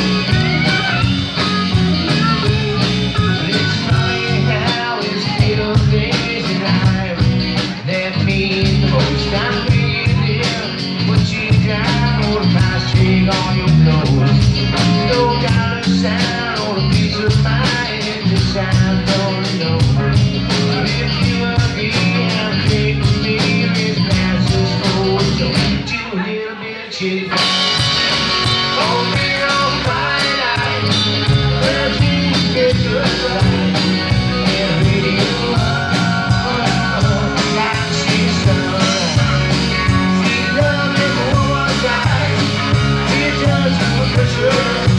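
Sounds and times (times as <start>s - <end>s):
steady drum beat: 0.0s - 25.9s, 27.3s - 44.9s
live country-rock band: 0.0s - 44.9s.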